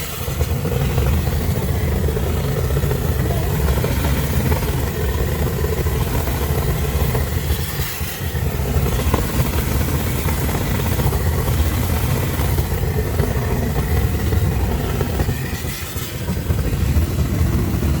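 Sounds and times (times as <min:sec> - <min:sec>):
engine running with low rumble: 0:00.0 - 0:18.0.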